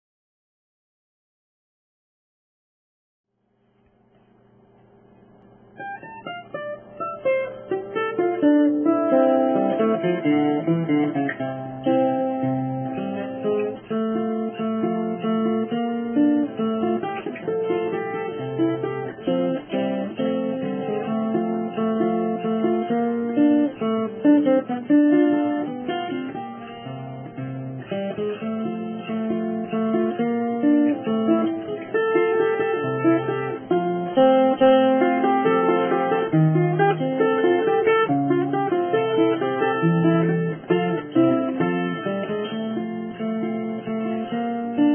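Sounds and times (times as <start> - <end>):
acoustic guitar melody: 5.7 - 44.9.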